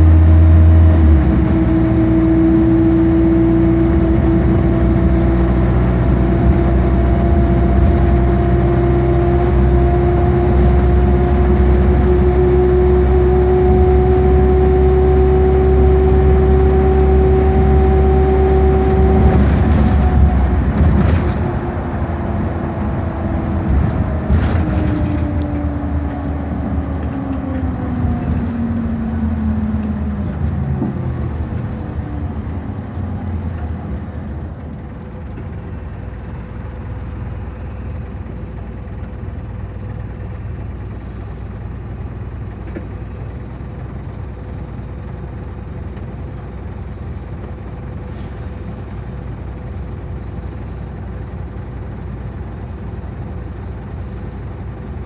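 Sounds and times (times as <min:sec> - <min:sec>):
bus engine rumble and whine: 0:00.0 - 0:55.0.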